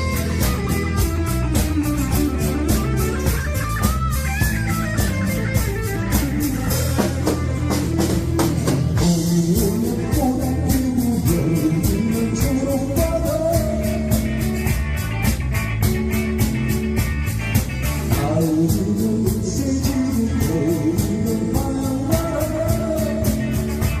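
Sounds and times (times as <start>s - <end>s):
bass guitar: 0.0s - 24.0s
electric guitar: 0.0s - 24.0s
rock drum beat: 0.0s - 24.0s.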